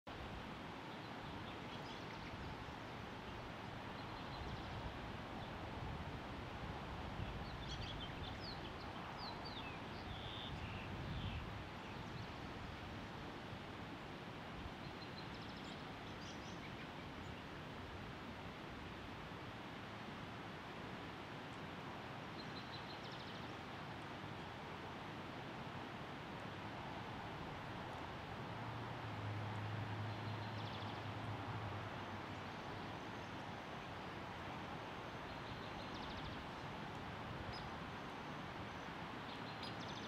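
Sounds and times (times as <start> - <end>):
outdoor background hiss: 0.1 - 40.0
songbirds chirping: 0.1 - 40.0.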